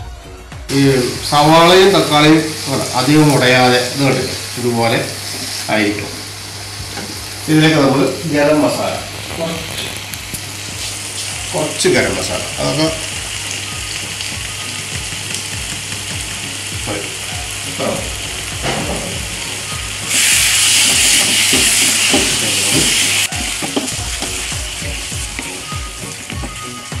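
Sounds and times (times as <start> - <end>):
onion and tomato sizzling in pan: 0.7 - 27.0.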